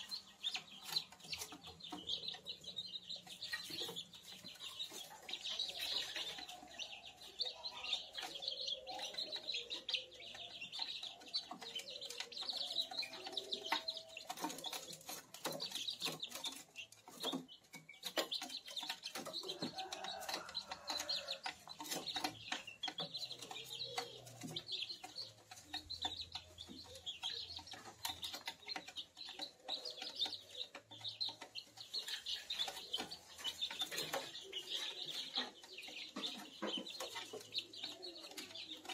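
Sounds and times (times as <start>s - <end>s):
chicks chirping and peeping: 0.0s - 38.9s
short clicks of chicks moving: 0.0s - 38.9s.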